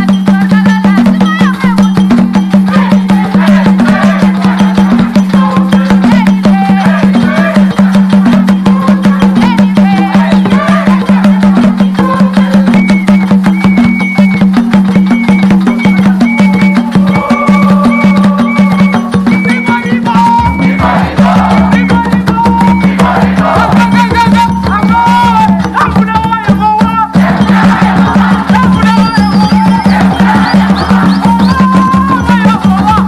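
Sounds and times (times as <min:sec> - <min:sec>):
hand drums beating fast: 0:00.0 - 0:33.0.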